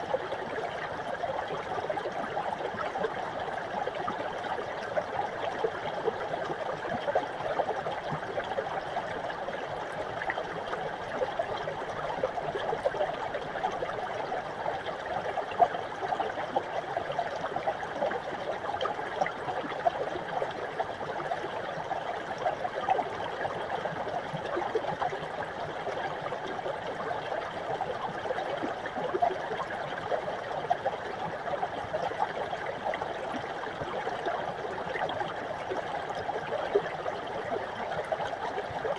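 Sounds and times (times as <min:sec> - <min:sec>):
brook water running: 0:00.0 - 0:38.9.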